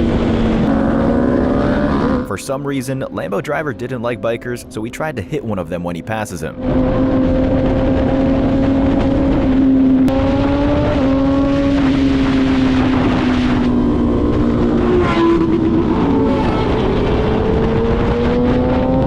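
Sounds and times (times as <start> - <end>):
motorcycle engine cruising: 0.0 - 5.0, 6.6 - 19.0
road and wind noise: 0.0 - 19.0.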